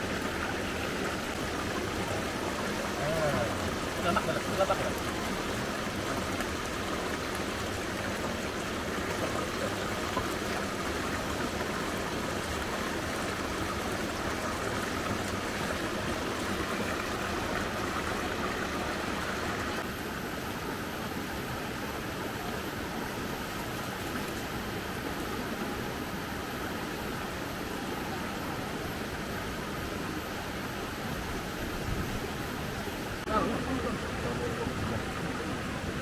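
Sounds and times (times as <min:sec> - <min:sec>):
river water flowing: 0:00.0 - 0:36.0.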